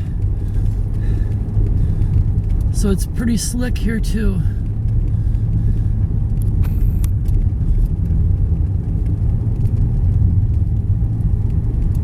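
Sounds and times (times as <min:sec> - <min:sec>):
car engine rumble: 0:00.0 - 0:12.0
tyres on snowy road: 0:00.0 - 0:12.0.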